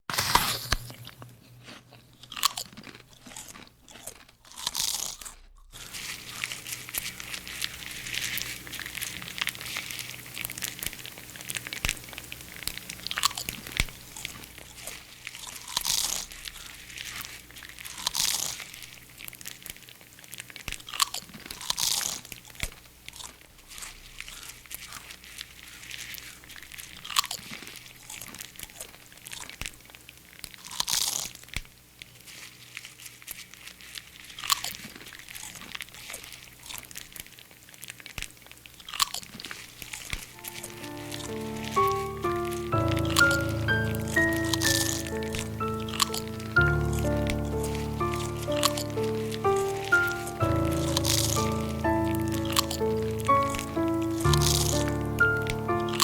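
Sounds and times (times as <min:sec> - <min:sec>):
crunching and chewing: 0:00.1 - 0:56.0.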